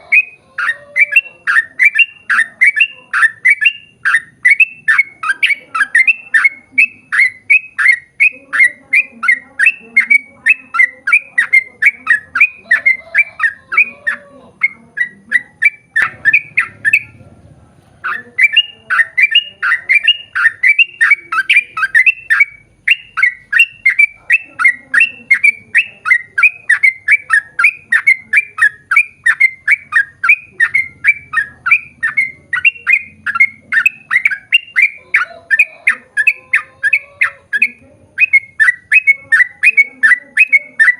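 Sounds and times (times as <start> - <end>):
bird chirping rapidly: 0.0 - 17.4, 18.0 - 40.9.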